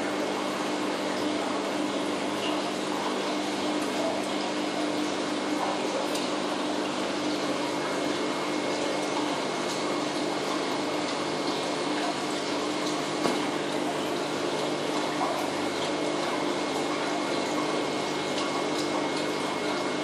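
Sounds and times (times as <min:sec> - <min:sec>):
aquarium pumps humming: 0:00.0 - 0:20.0.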